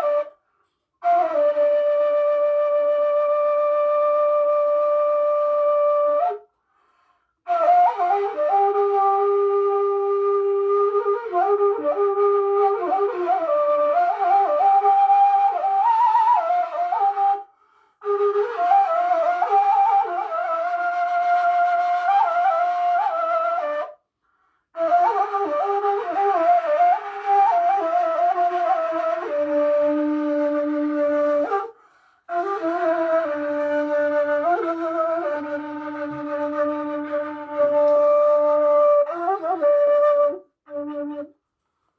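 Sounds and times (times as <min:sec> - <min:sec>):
flute-like folk melody: 0:00.0 - 0:41.5.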